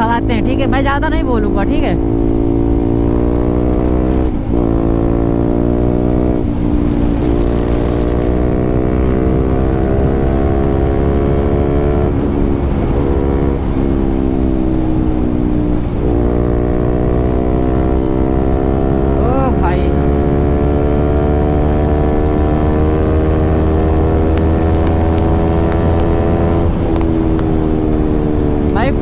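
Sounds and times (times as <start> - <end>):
motorcycle engine under throttle: 0.0 - 29.0.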